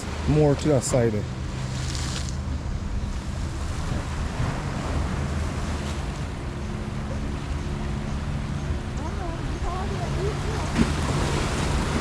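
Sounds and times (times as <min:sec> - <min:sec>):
sea surf: 0:00.0 - 0:12.0.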